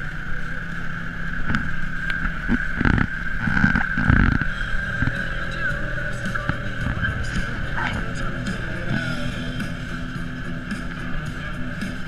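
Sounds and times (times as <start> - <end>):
atv engine whining: 0.0 - 12.0.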